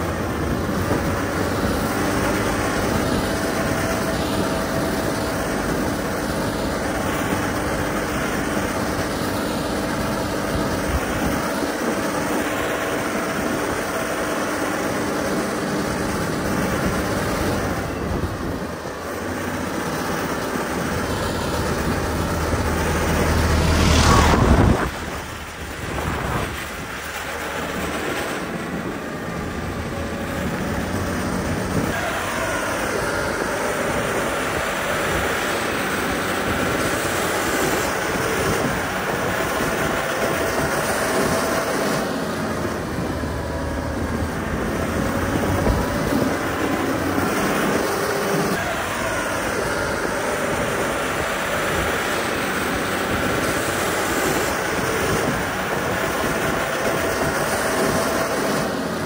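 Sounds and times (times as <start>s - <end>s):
diesel construction machinery: 0.0s - 59.0s.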